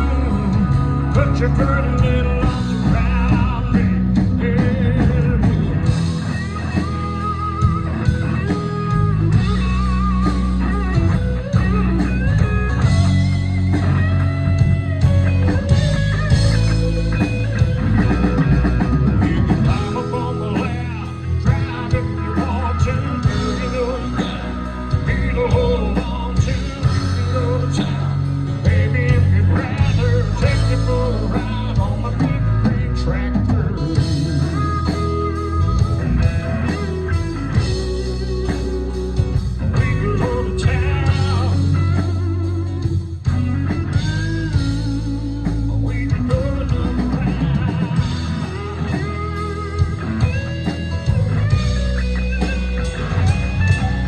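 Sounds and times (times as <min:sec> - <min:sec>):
band playing country-rock: 0:00.0 - 0:54.0.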